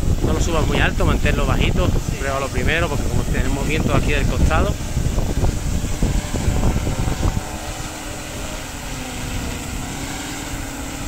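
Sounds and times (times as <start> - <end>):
drone propellers humming: 0.0 - 11.0
wind on microphone: 0.0 - 11.0.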